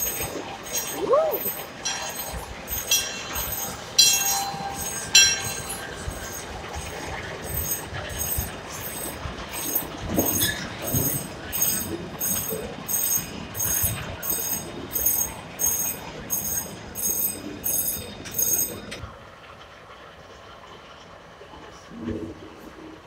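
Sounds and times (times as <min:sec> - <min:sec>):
locomotive bell ringing: 0:00.0 - 0:19.0
soft rhythmic train pulses: 0:00.0 - 0:23.0.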